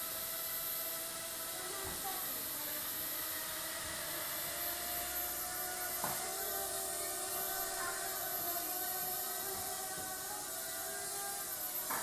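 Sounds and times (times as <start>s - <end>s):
quadcopter propellers whirring: 0.0s - 12.0s.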